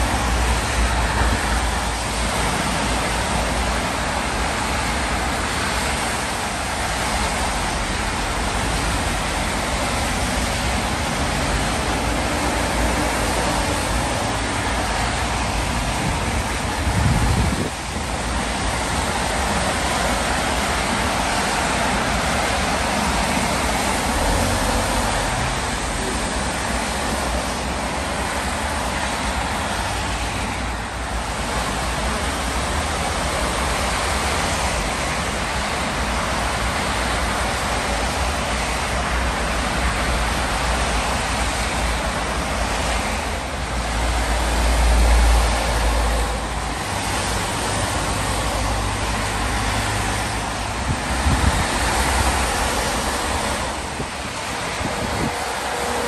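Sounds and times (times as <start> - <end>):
tyres hissing on wet road: 0.0 - 56.0.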